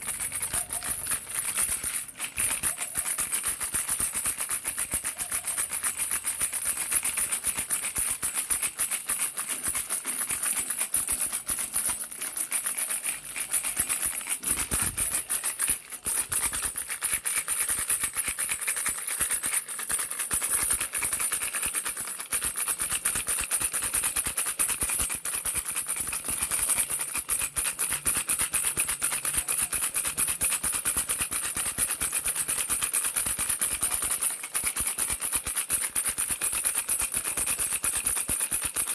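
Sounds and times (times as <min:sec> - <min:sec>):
baby rattle shaken: 0:00.0 - 0:38.9.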